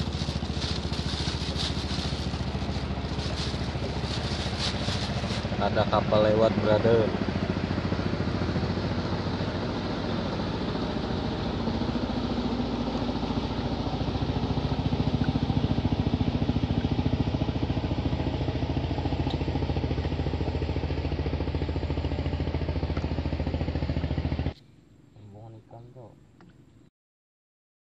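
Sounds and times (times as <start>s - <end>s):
motor boat engine chugging: 0.0s - 24.5s.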